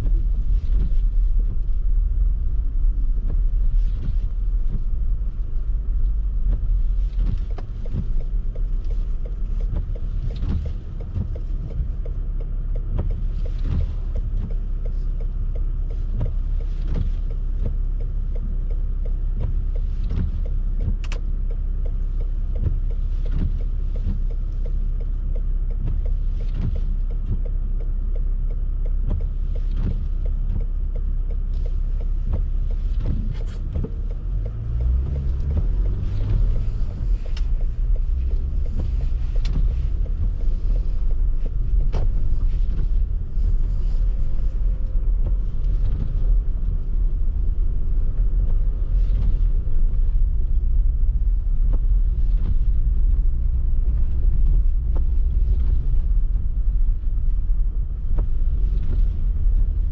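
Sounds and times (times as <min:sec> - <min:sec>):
car driving low rumble: 0:00.0 - 0:59.9.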